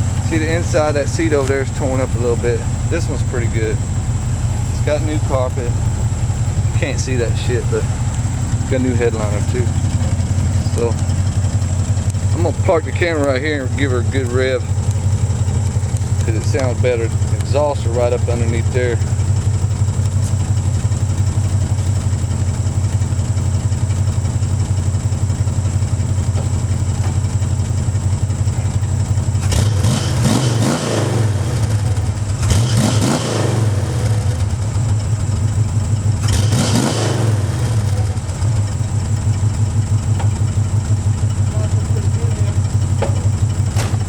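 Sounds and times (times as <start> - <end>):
engine revving: 0.0 - 22.7, 28.4 - 44.0
car engine idling: 0.0 - 44.0.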